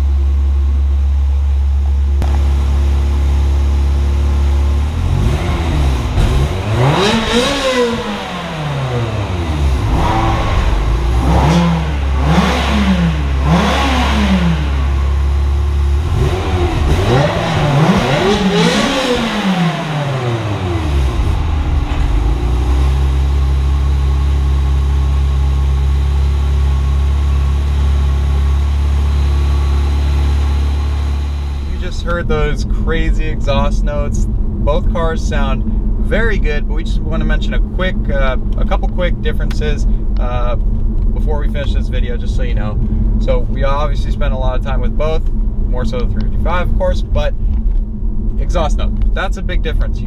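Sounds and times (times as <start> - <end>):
car engine idling and revving: 0.0 - 50.0.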